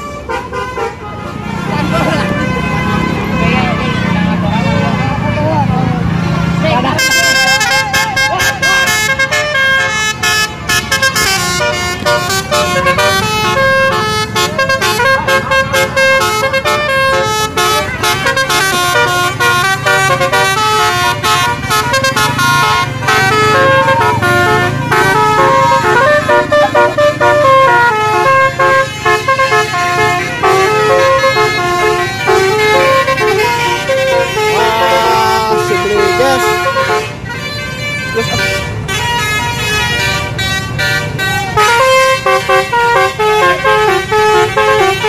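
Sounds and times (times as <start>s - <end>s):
bus horn playing a tune: 0.0s - 45.0s.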